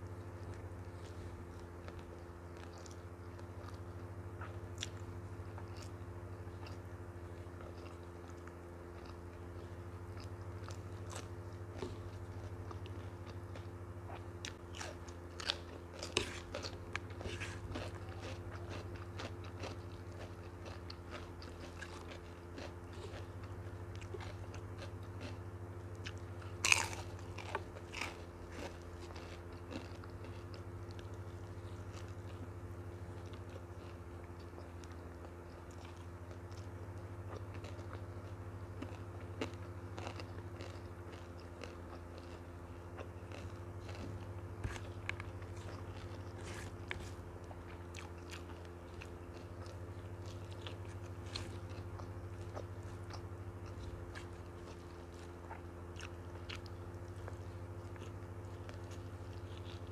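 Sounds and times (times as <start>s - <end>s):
close chewing and mouth sounds: 0.0s - 59.9s
steady low hum: 0.0s - 59.9s.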